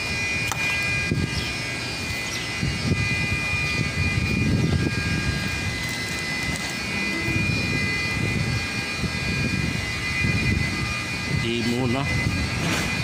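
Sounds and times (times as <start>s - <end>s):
machine drone with high whine: 0.0s - 13.0s
low rumble on microphone: 2.6s - 13.0s.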